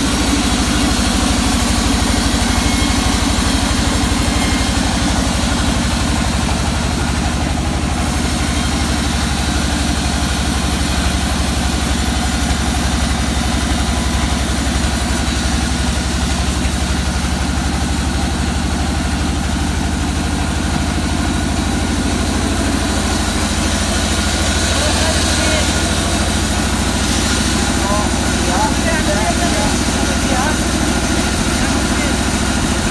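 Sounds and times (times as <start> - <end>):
sawmill engine idling: 0.0 - 32.9.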